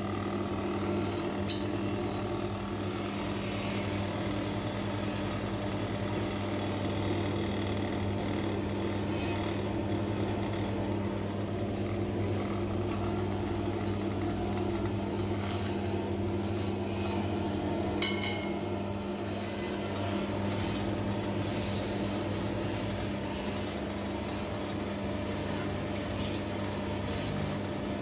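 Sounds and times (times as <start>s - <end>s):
oil expeller motor humming: 0.0s - 28.0s.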